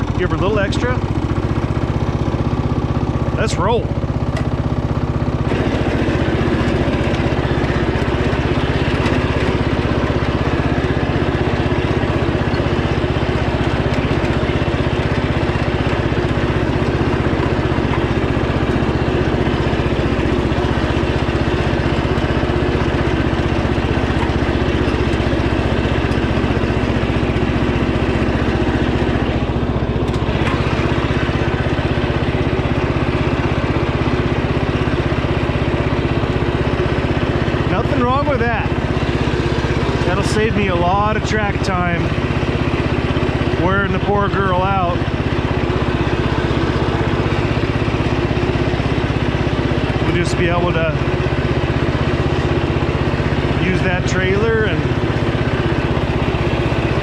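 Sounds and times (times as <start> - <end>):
lawn tractor engine running: 0.0 - 57.0.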